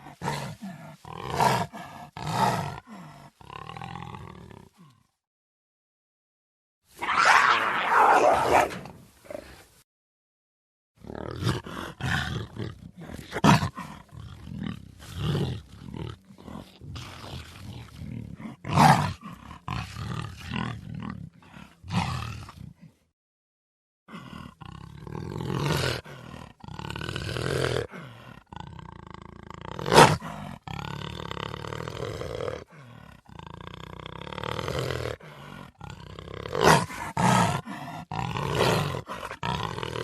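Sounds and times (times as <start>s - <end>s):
big cat roaring: 0.0s - 5.2s, 7.0s - 9.6s, 11.0s - 22.8s, 24.1s - 40.0s.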